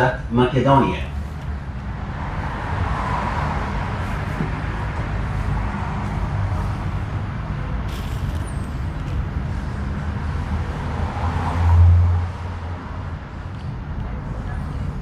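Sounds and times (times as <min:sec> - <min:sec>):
tram hum and rumble: 0:00.0 - 0:15.0.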